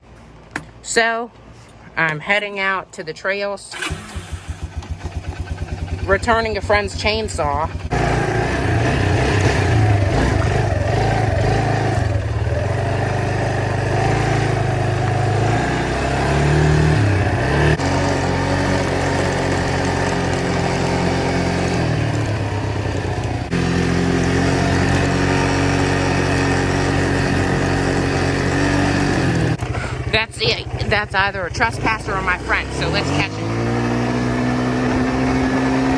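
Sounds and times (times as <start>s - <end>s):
atv engine running: 3.7s - 35.9s.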